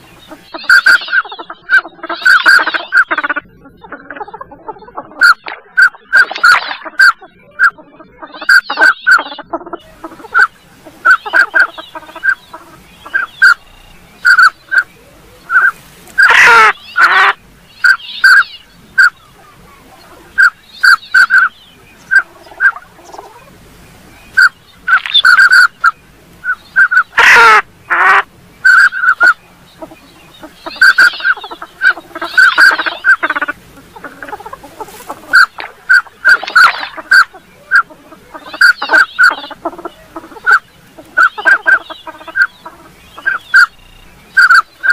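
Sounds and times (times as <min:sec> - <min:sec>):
ducks calling: 0:00.0 - 0:44.9.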